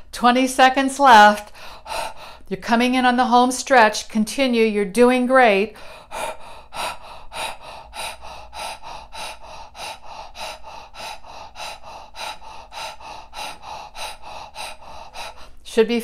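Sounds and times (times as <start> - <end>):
woman rapid rhythmic breathing: 0.0 - 16.0.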